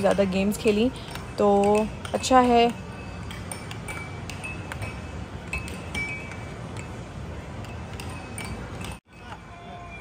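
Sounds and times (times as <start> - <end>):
air hockey pucks clacking: 0.0 - 9.5.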